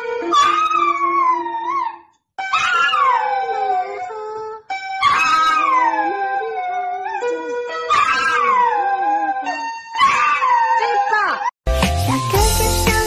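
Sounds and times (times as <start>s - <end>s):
dog howling: 0.0s - 11.5s.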